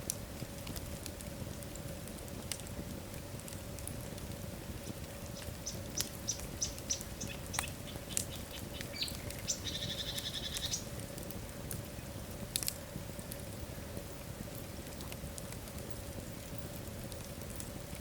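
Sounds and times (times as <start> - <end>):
logs crackling and popping: 0.0 - 18.0
low steady rumble: 0.0 - 18.0.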